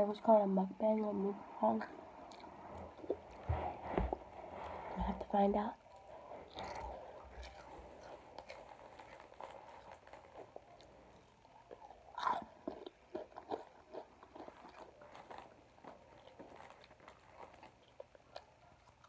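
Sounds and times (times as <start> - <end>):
person chewing crunchy snack: 2.1 - 4.8, 5.8 - 19.0.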